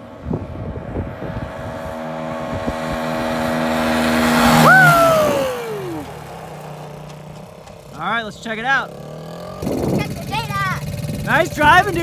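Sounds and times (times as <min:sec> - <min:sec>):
atv engine at full throttle: 0:00.0 - 0:12.0.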